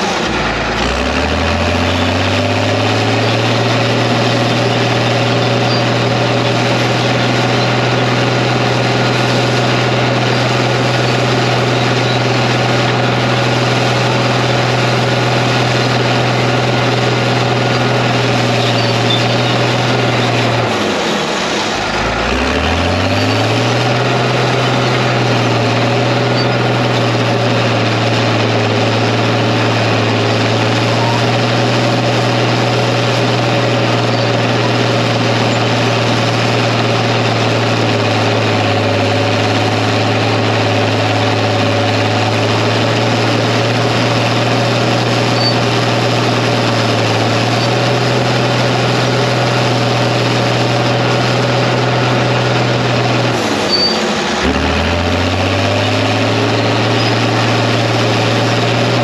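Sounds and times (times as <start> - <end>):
bulldozer engine running: 0.0 - 59.0.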